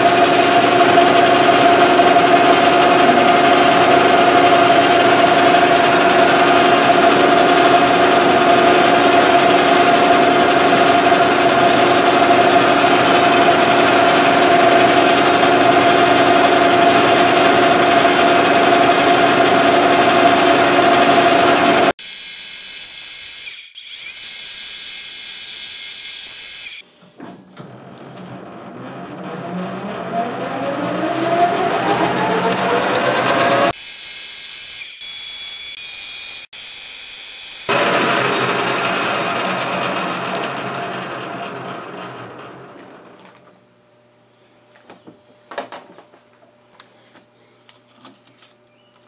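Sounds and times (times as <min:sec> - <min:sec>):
metal lathe cutting steel: 0:00.0 - 0:26.8, 0:28.4 - 0:43.2.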